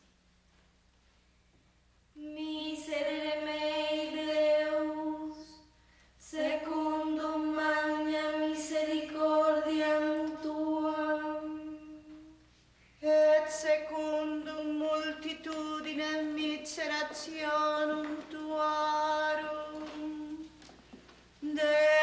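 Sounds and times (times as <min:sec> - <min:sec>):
woman chanting: 0:02.2 - 0:05.6, 0:06.2 - 0:12.4, 0:13.0 - 0:20.6, 0:21.4 - 0:22.0.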